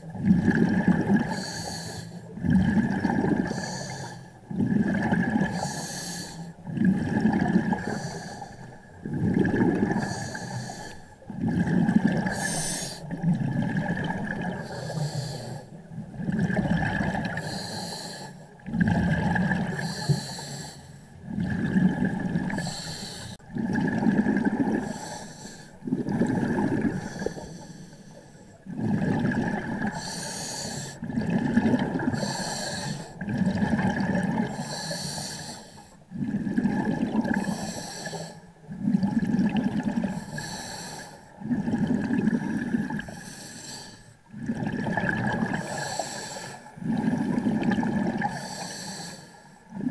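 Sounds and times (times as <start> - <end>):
exhaled bubbles rumbling: 0.0 - 17.6, 18.4 - 20.3, 21.1 - 35.0, 35.8 - 43.4, 44.2 - 48.6, 49.6 - 49.9.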